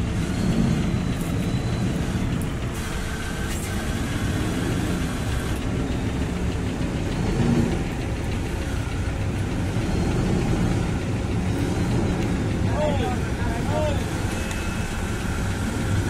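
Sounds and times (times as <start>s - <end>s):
diesel loader engine under load: 0.0s - 16.0s.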